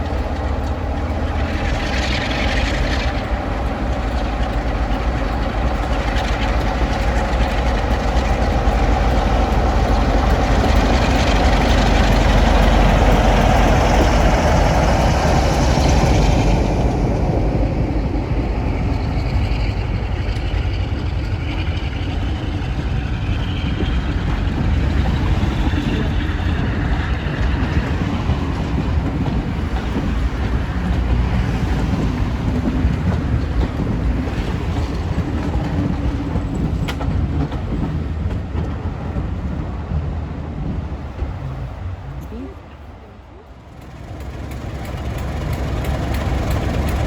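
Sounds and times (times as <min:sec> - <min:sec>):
diesel train running: 0:00.0 - 0:47.0.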